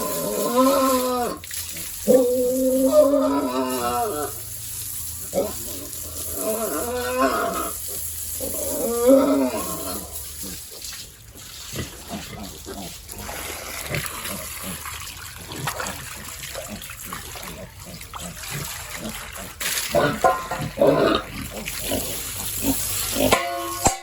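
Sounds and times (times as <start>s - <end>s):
pigs squealing: 0.0s - 4.6s, 5.2s - 24.0s
water splashing: 0.0s - 24.0s.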